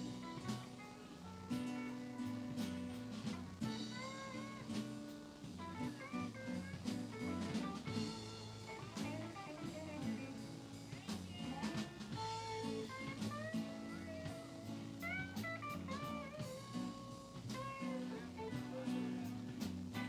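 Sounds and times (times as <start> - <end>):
electric guitar lead with bends: 0.0 - 20.0
live blues band: 0.0 - 20.0.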